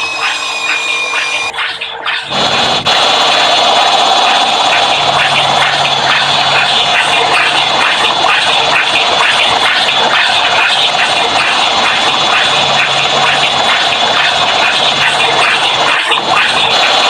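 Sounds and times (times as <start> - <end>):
sound effects: 0.0 - 17.0
washing machine spin cycle: 0.0 - 17.0.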